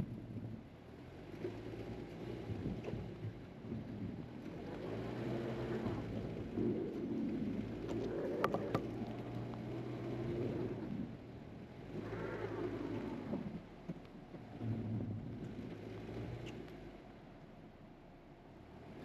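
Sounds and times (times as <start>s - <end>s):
wheels spinning in snow: 0.0s - 16.9s.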